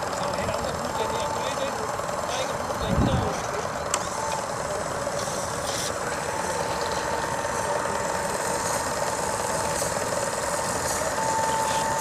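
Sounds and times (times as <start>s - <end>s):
steam engine running: 0.0s - 12.0s
thin steady whine: 0.0s - 12.0s.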